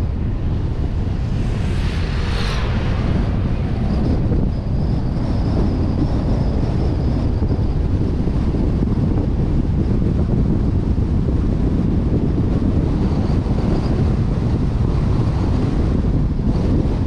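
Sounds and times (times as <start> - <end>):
road and engine rumble: 0.0 - 17.0
wind buffeting microphone: 0.0 - 17.0.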